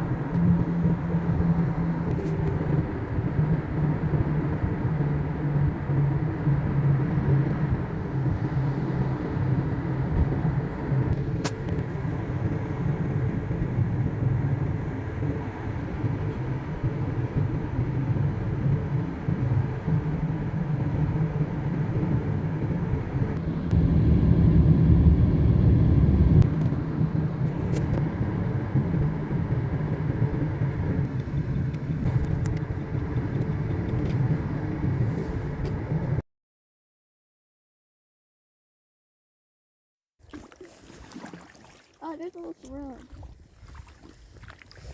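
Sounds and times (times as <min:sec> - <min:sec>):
car road and engine noise: 0:00.0 - 0:36.2.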